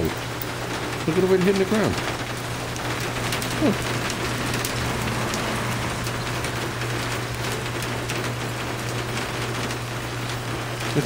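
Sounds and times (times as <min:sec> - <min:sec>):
heavy rain pelting asphalt and cars: 0:00.0 - 0:11.0.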